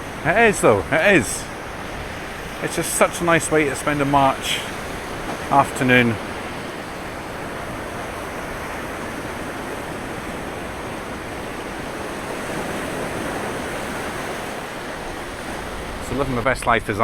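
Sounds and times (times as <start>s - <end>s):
sea surf waves: 0.0s - 17.0s.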